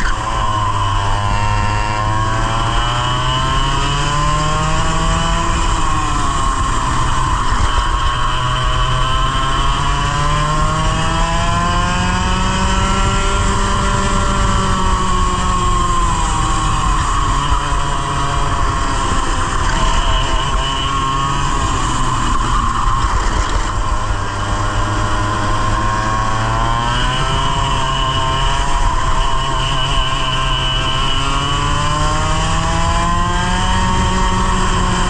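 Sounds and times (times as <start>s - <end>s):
two-stroke kart engine revving: 0.0s - 35.0s.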